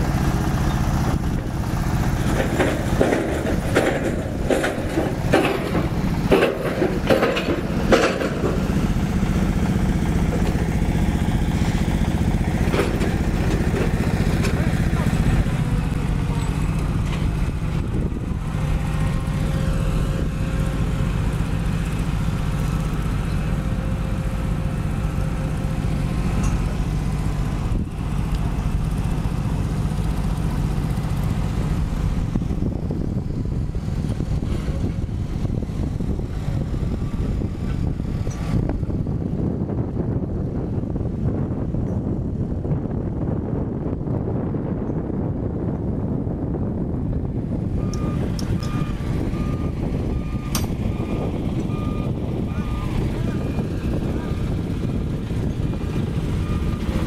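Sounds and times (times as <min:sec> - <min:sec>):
crane diesel engine running: 0:00.0 - 0:57.0.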